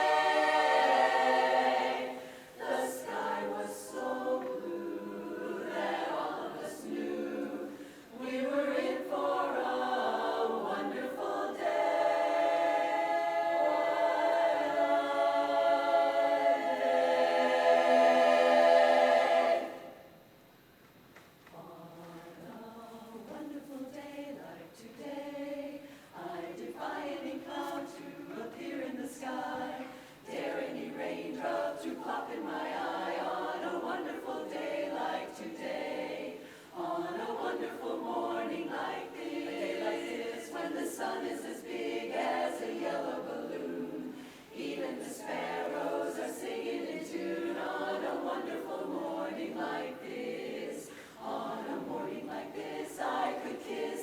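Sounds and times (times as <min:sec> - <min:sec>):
a cappella chorus singing: 0:00.0 - 0:20.4, 0:21.5 - 0:54.0.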